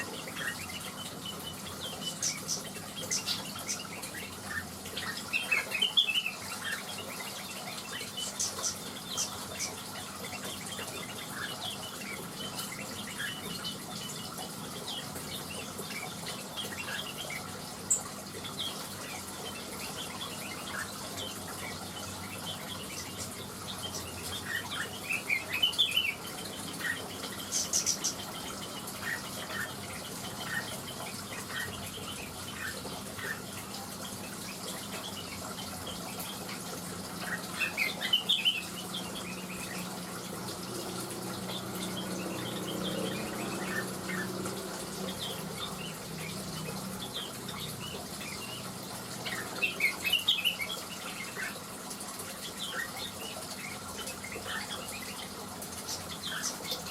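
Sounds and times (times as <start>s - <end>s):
birds chirping and twittering: 0.0s - 56.9s.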